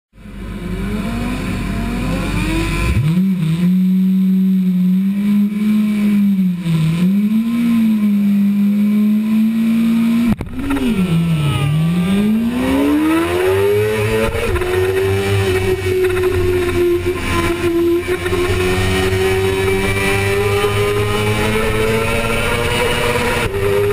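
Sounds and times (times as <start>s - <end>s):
motorcycle engine revving: 0.3s - 23.9s.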